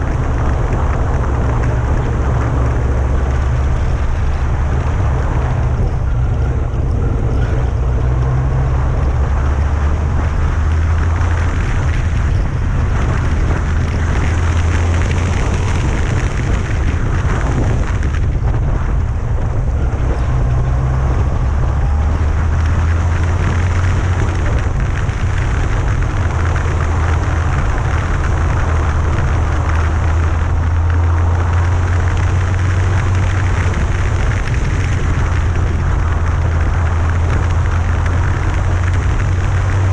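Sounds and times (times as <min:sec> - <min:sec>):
motorcycle engine running: 0:00.0 - 0:39.9
road rumble: 0:00.0 - 0:39.9
wind buffeting microphone: 0:00.0 - 0:39.9.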